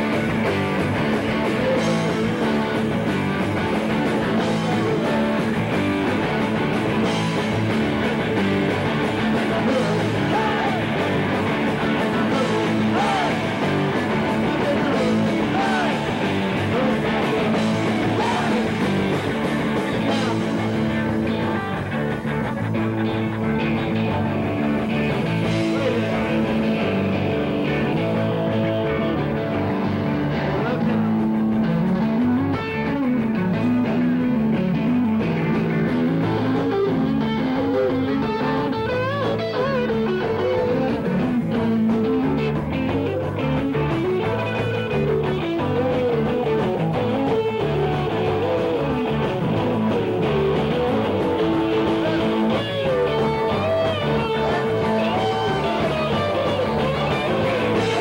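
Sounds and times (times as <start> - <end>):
electric guitar lead line: 0.0 - 58.0
live rock band playing: 0.0 - 58.0.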